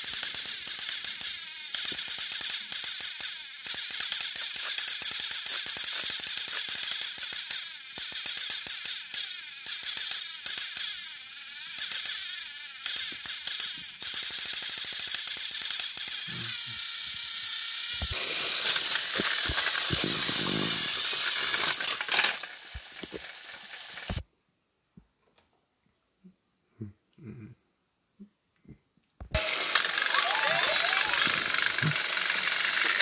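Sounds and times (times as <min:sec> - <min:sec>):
toy train motors whirring: 0:00.0 - 0:24.2, 0:29.3 - 0:33.0.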